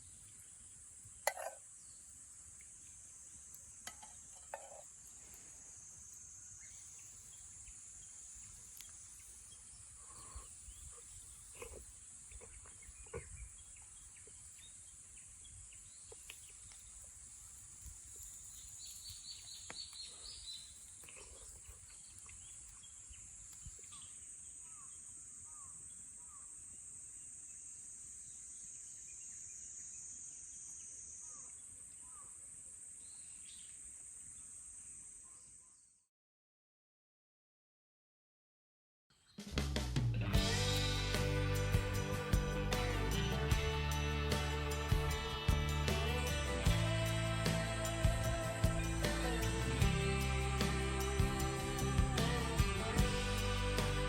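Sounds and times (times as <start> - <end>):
high-pitched insect chorus: 0.0 - 35.8, 40.4 - 54.0.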